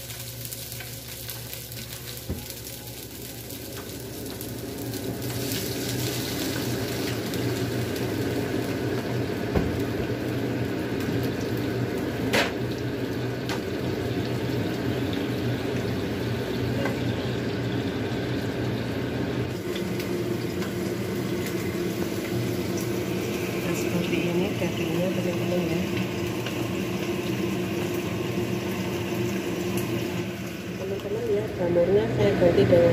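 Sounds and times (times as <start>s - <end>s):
food bubbling and sizzling in pan: 0.0s - 31.2s.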